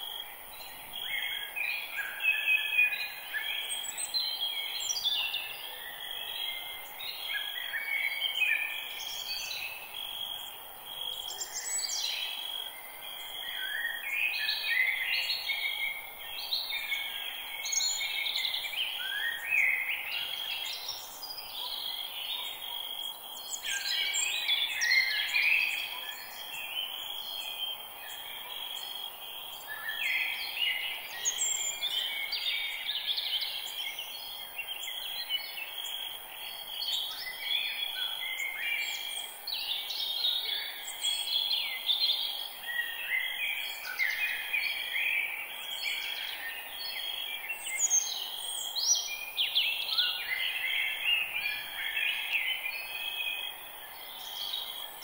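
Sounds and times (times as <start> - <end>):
forest birds singing: 0.0 - 55.0.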